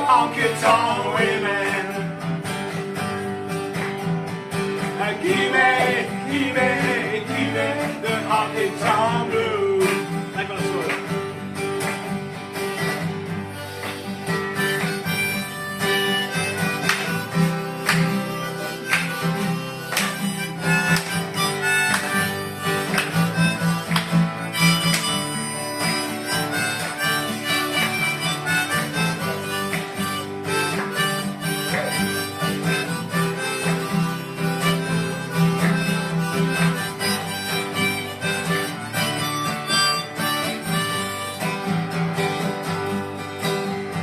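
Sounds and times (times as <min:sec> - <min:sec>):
strummed guitar: 0:00.0 - 0:44.0.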